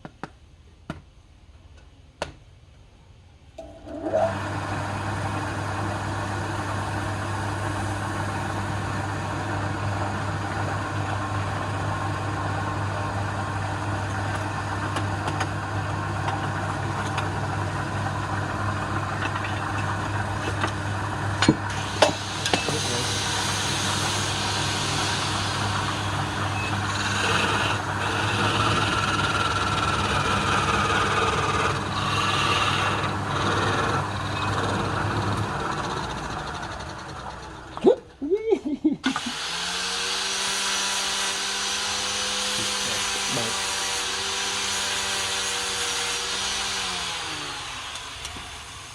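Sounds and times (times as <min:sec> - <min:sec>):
lathe motor humming: 0:03.6 - 0:37.8, 0:39.1 - 0:48.9.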